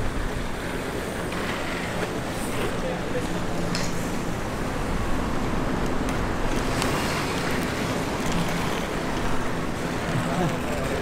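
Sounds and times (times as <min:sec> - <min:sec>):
skate wheels rolling on pavement: 0:00.0 - 0:11.0.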